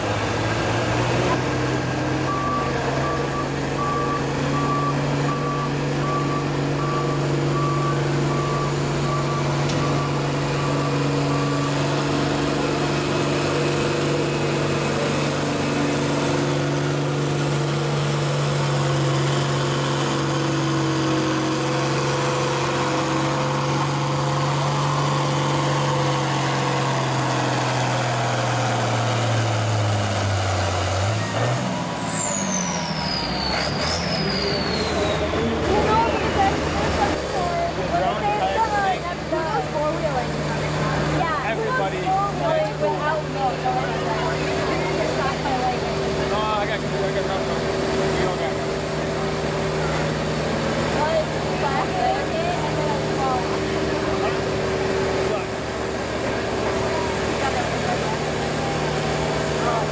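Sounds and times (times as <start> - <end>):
tractor engine working hard: 0.0 - 59.9.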